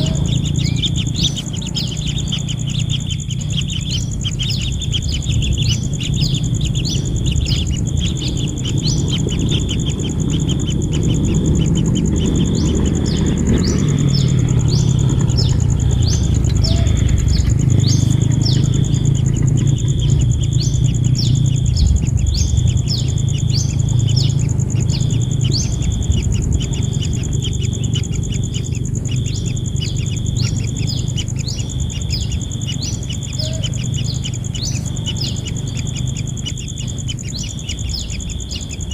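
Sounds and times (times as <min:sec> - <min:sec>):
high insect-like drone: 0:00.0 - 0:38.9
low rumbling noise: 0:00.0 - 0:38.9
nestlings chirping: 0:00.0 - 0:38.9.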